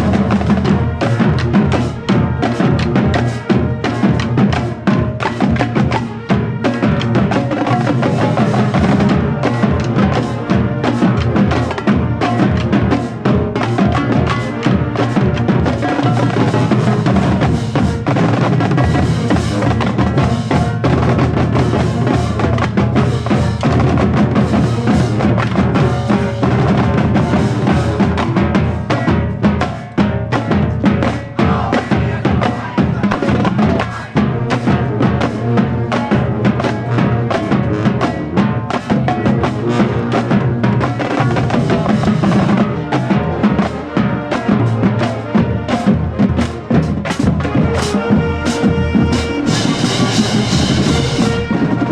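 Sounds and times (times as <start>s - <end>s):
marching band playing: 0.0s - 51.9s
snare and bass drums: 0.0s - 51.9s.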